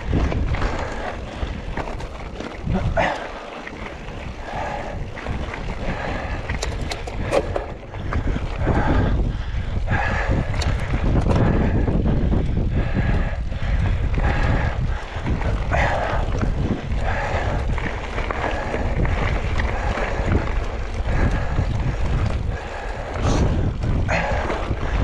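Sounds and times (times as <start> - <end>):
tyres rumbling on rock: 0.0 - 9.3, 9.9 - 25.0
bike rattling clicks: 0.0 - 25.0
wind buffeting microphone: 0.0 - 25.0.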